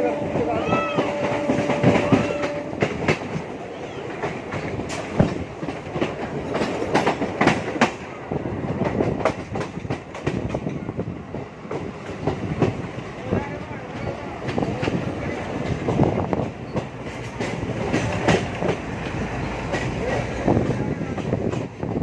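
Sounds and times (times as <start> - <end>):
electric train rumbling: 0.0 - 22.0
wheels clicking over rail joints: 0.4 - 8.1, 8.7 - 22.0.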